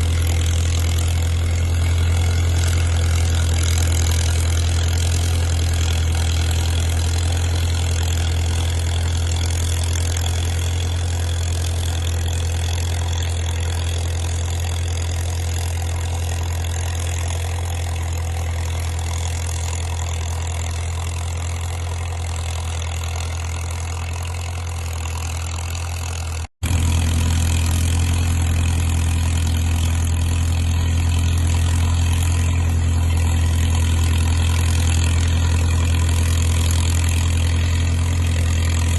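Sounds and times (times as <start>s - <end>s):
diesel dozer engine under load: 0.0s - 38.9s.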